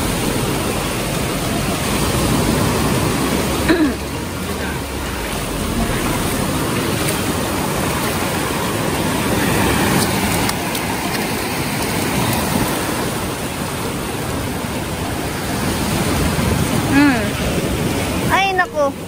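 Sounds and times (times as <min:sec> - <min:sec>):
surf washing onto beach: 0:00.0 - 0:19.0.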